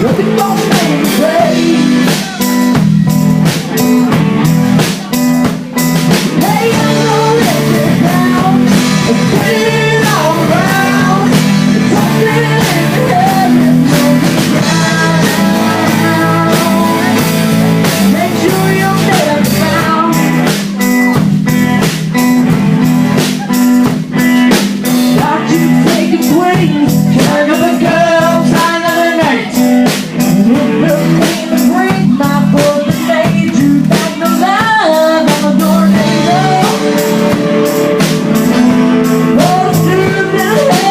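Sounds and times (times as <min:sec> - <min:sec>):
bending lead guitar line: 0:00.0 - 0:40.9
blues-rock band playing: 0:00.0 - 0:40.9.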